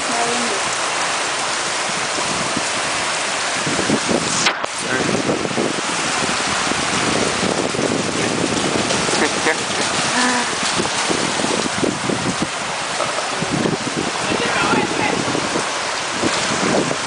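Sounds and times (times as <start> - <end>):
floodwater rushing over street: 0.0 - 17.0
heavy rain pouring: 0.0 - 17.0.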